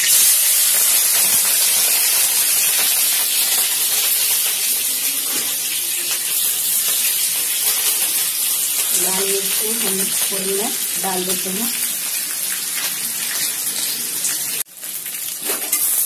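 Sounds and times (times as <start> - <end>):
chilies sizzling in oil: 0.0 - 16.0.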